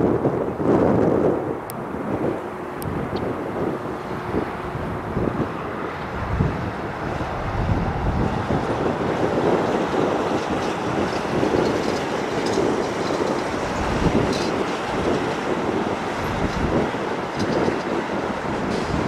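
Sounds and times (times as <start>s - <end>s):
jet engines at takeoff thrust: 0.0s - 19.0s.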